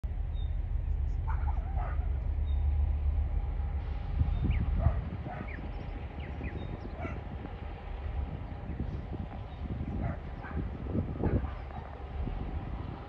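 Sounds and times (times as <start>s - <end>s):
distant locomotive rumble: 0.0s - 13.0s.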